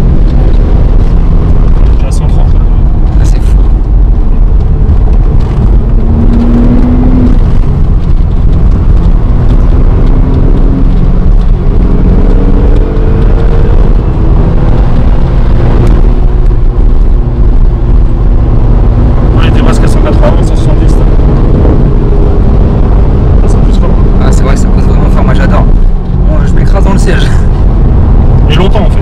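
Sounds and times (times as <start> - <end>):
car engine accelerating: 0.0 - 29.0
low road noise rumble: 0.0 - 29.0.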